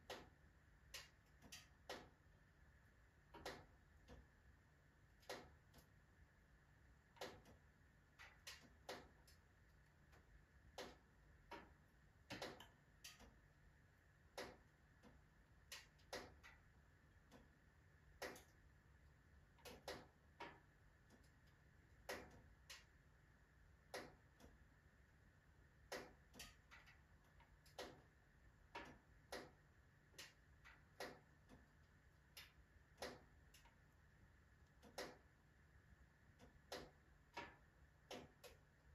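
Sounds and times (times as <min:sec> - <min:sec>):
wood fire crackling in stove: 0:00.0 - 0:38.9.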